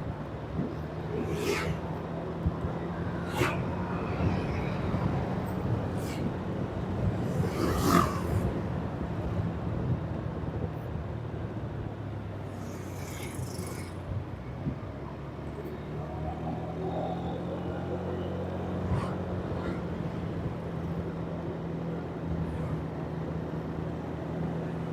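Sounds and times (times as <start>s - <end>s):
passing traffic rush: 0.0s - 24.9s
road and traffic noise: 0.0s - 24.9s.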